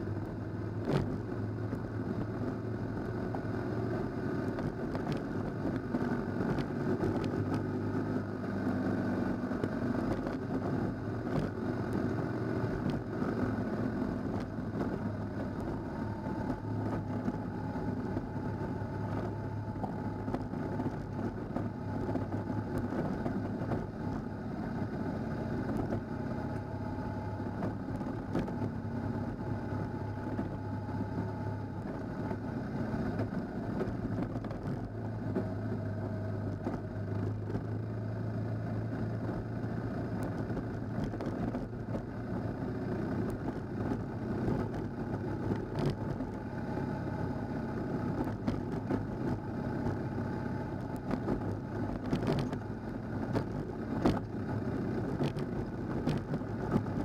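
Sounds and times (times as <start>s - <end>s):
motorcycle engine cruising: 0.0s - 57.0s
stones ticking under tyres: 0.0s - 57.0s.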